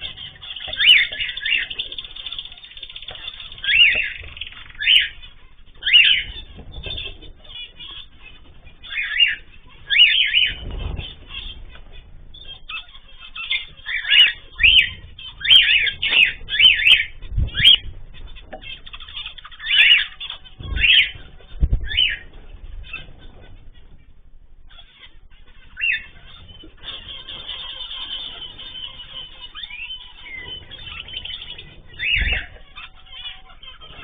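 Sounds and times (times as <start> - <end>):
cage birds chirping: 0.0 - 34.0
low thumps: 3.1 - 19.5, 20.1 - 34.0.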